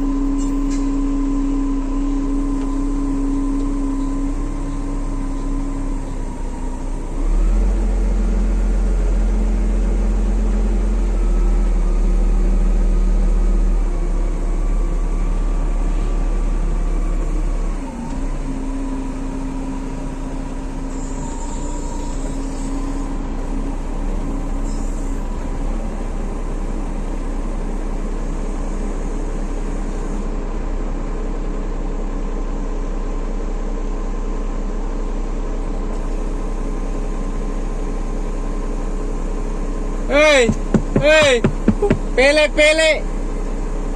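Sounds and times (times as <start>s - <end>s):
heavy machine engine running: 0.0s - 43.9s.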